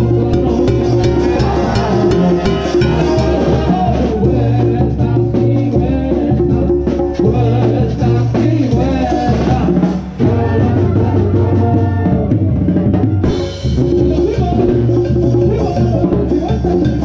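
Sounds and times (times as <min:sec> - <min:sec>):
live brass band music: 0:00.0 - 0:04.8, 0:07.0 - 0:16.9.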